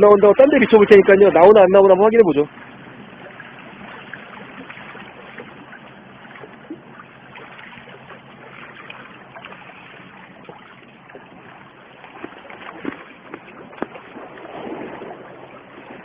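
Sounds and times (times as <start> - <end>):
sea water lapping among boulders: 0.0 - 16.0
small water splashes: 0.0 - 16.0.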